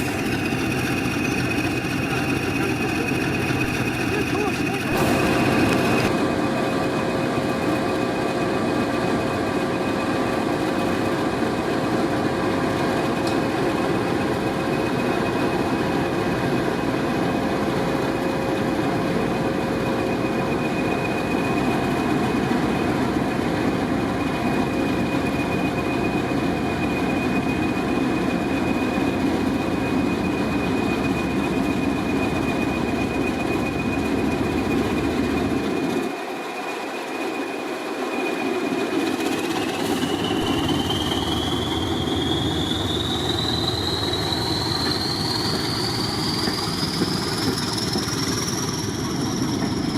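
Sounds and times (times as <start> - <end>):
diesel locomotive engine rumble: 0.0 - 49.9
steady whine: 0.0 - 49.9.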